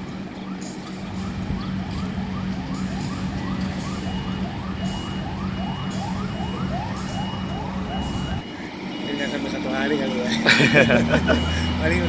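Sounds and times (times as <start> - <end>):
diesel truck engine humming: 0.0 - 12.0
reversing alarm beeps: 0.0 - 12.0
siren-like whoop: 0.0 - 12.0.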